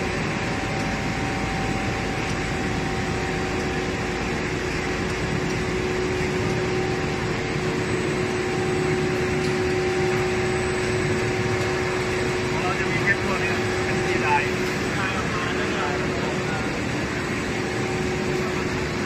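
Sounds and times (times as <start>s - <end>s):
constant machine tone: 0.0s - 19.0s
machinery motors humming: 0.0s - 19.0s.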